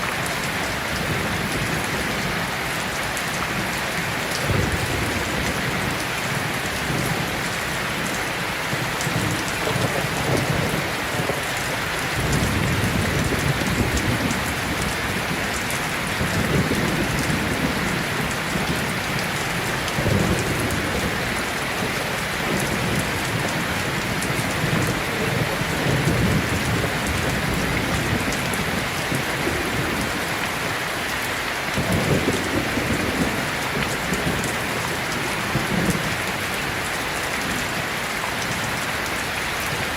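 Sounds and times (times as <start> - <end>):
thunder rumbling: 0.0 - 30.8, 31.7 - 38.8
heavy rain: 0.0 - 39.9.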